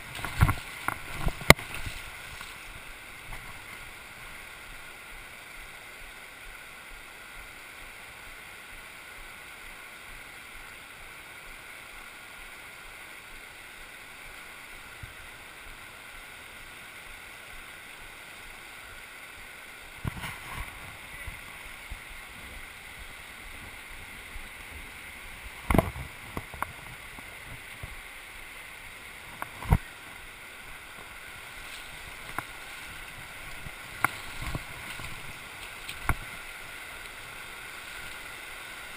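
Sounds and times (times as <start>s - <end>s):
river water rushing over cobbles: 0.0s - 38.9s.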